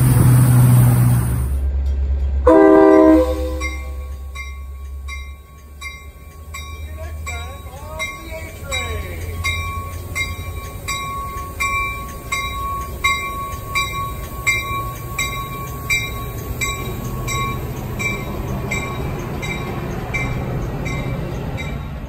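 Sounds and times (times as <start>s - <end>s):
train rumbling past: 0.0s - 22.0s
bell ringing: 2.7s - 21.9s.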